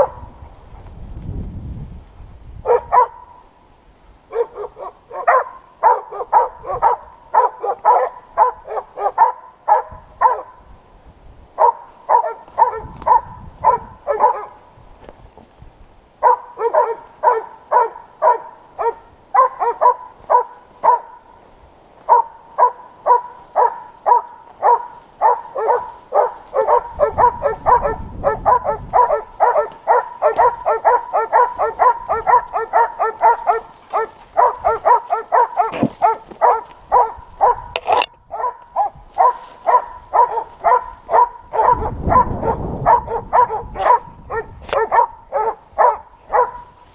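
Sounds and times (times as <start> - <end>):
hunting dogs baying: 2.7 - 3.4, 4.3 - 10.6, 11.6 - 14.6, 16.2 - 21.3, 22.0 - 46.7.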